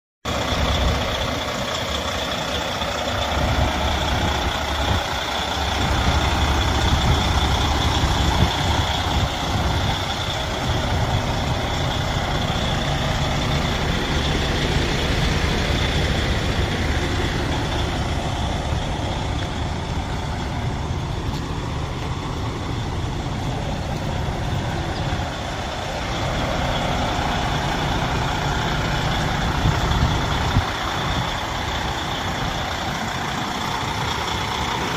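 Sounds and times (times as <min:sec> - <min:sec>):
diesel truck engine idling: 0:00.2 - 0:34.9.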